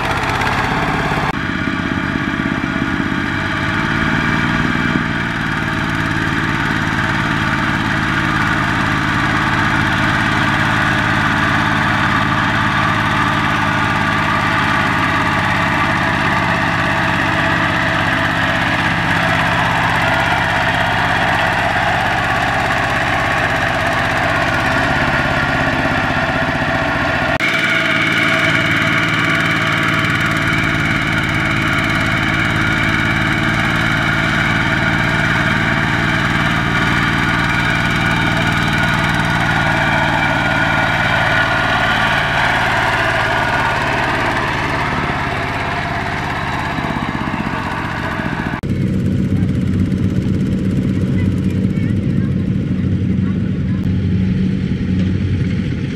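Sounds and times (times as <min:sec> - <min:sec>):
diesel engine under heavy load: 0:00.0 - 0:55.9.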